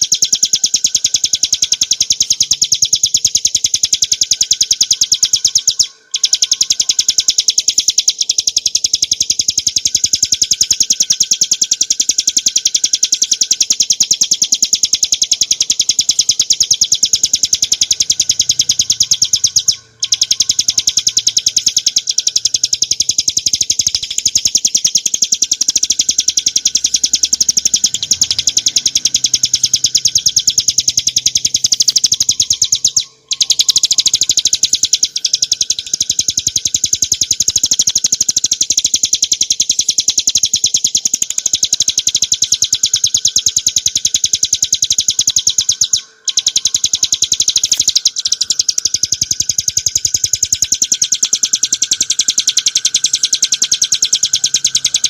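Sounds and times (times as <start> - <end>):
bird singing high-pitched trill: 0.0 - 55.0.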